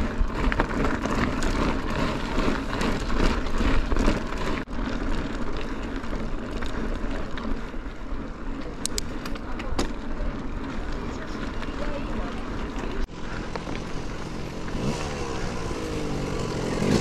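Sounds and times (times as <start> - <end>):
bike parts rattling: 0.0 - 17.0
mountain bike tyres rolling: 0.0 - 17.0.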